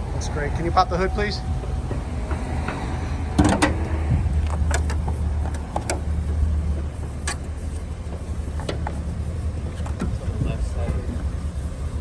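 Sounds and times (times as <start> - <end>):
car engine idling: 0.0 - 12.0
hood clicks and knocks: 1.6 - 11.6.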